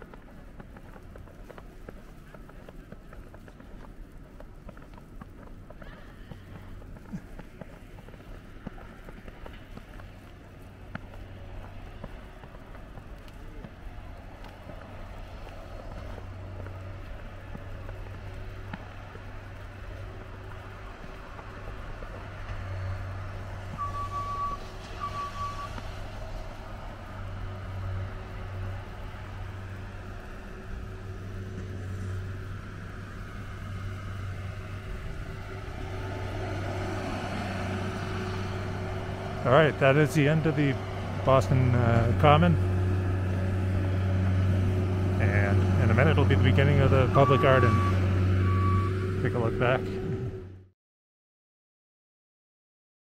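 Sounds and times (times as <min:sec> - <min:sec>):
constant low hum: 0:00.0 - 0:50.7
steady low rumble: 0:00.0 - 0:50.7.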